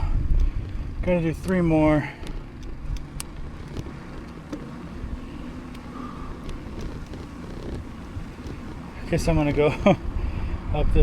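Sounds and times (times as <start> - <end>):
bike tyres rolling: 0.0 - 11.0
light clicks and rattles: 0.3 - 10.0.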